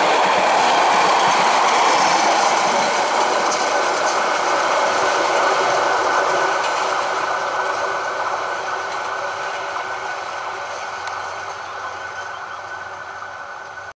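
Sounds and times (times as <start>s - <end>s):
train wheels rolling on rails: 0.0s - 13.9s.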